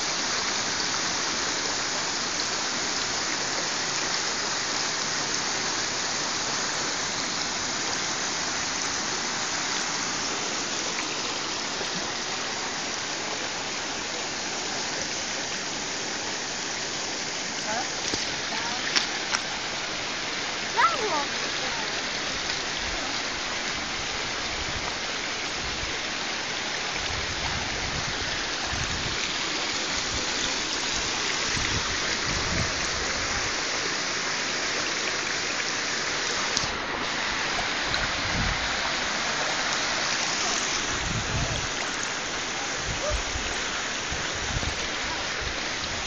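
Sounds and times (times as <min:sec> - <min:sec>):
stream flowing over rocks: 0:00.0 - 0:46.0.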